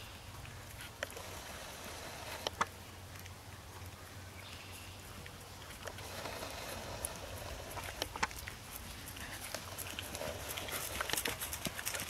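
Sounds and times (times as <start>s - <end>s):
horse hoofbeats trotting on grass: 0.0s - 12.0s.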